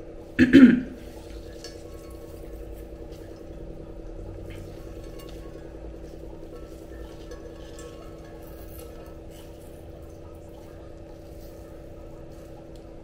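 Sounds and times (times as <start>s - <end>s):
steady low hum: 0.0s - 13.0s
clinks against steel vessel: 1.2s - 13.0s.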